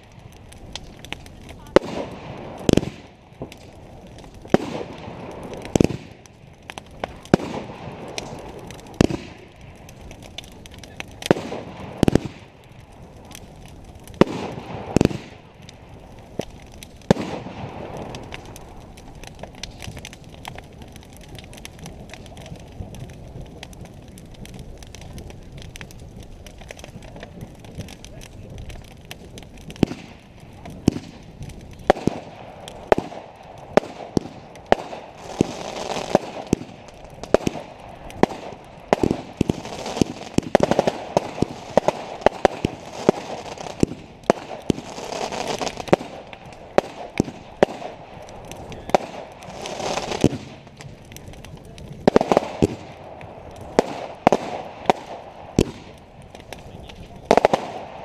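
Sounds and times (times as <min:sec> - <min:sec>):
fireworks bangs with echo: 0:00.8 - 0:20.5, 0:29.4 - 0:58.0.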